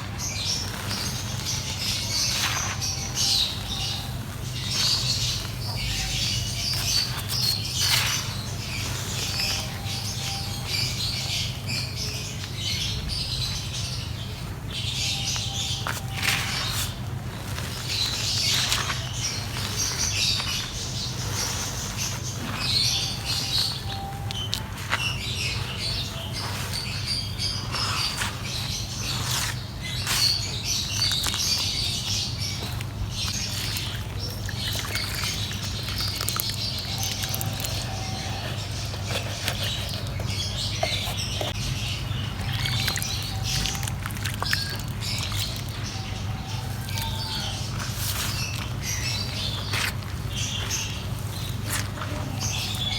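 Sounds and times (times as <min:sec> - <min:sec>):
dry mud crackling and crunching: 0:00.0 - 0:52.9.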